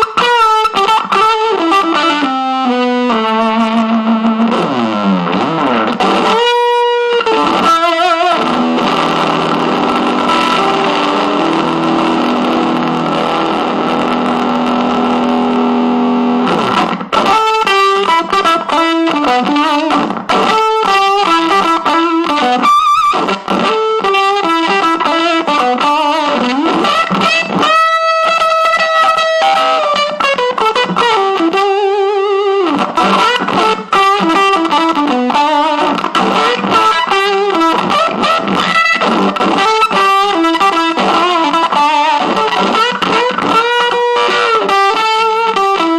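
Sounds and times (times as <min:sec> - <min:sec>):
fuzz electric guitar: 0:00.0 - 0:45.9.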